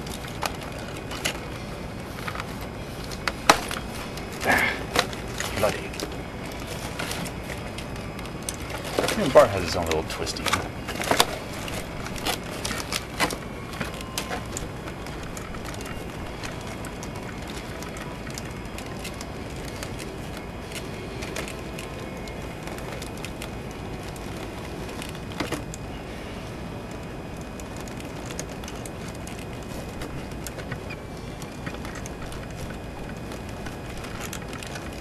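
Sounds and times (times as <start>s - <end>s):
small clicks and rustles: 0.0s - 35.0s
steady background hiss: 0.0s - 35.0s.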